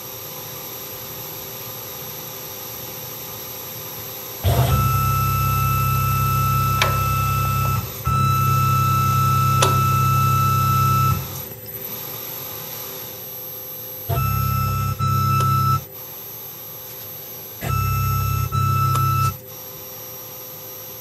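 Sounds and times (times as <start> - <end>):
mill spindle motor whine: 0.0 - 21.0.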